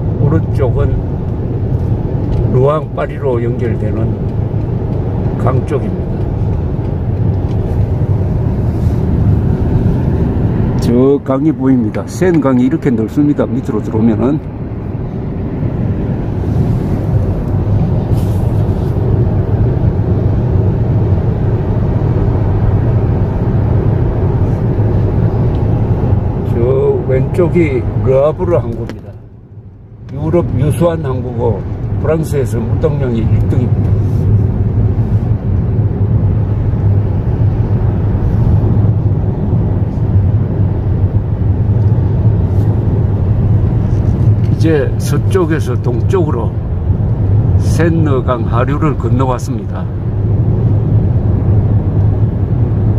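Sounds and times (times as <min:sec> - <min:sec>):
car road noise from inside: 0:00.0 - 0:52.9.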